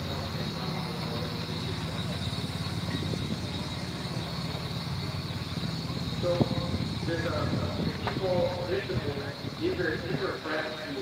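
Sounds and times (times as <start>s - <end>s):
steam engine running: 0.0s - 11.0s.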